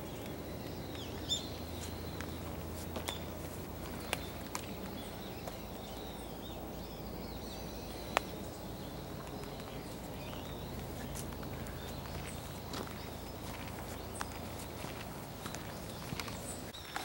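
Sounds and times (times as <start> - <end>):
low background hum: 0.0 - 16.9
small birds chirping: 0.0 - 17.0.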